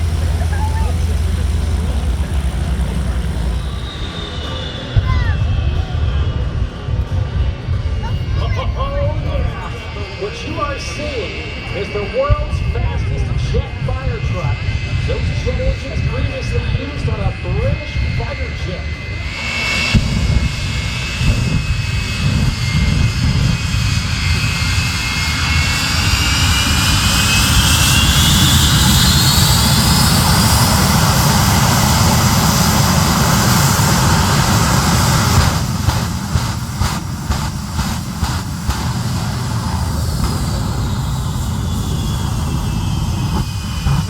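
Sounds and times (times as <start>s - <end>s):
jet engines rumbling and whining: 0.0s - 44.0s.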